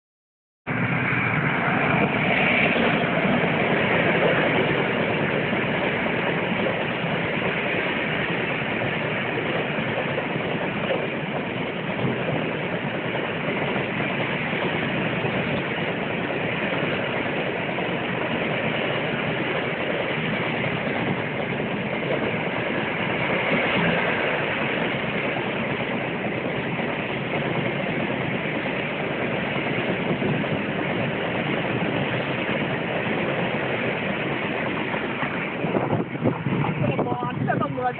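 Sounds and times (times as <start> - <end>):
freight train passing: 0.7 - 37.9.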